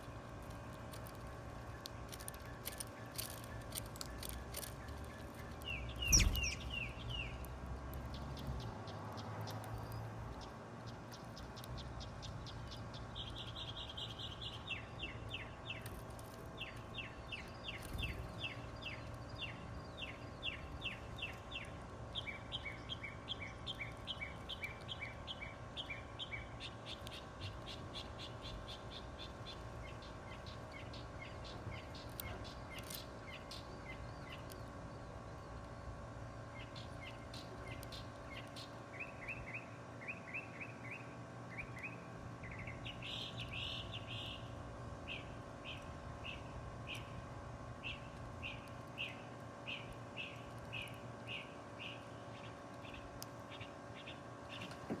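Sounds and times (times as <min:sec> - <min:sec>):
faint background hum: 0:00.0 - 0:55.0
small birds chirping: 0:00.0 - 0:55.0.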